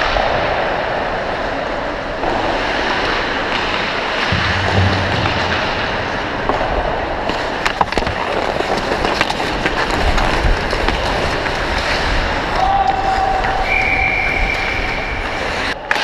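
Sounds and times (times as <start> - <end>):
skates scraping on ice: 0.0 - 16.0.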